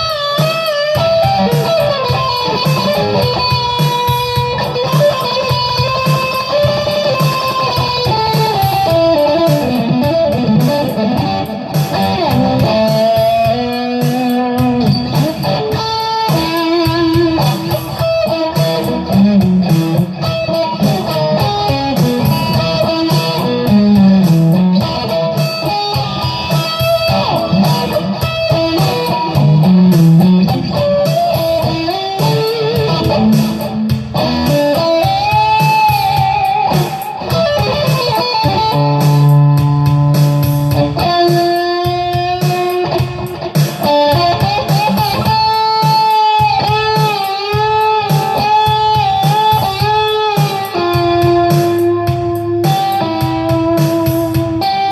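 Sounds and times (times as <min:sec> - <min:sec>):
electric guitar lead lines: 0:00.0 - 0:54.9.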